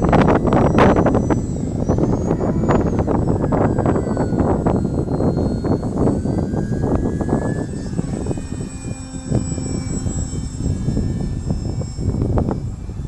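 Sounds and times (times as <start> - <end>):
model plane motor whine: 0.0 - 13.0
wind buffeting microphone: 0.0 - 13.0.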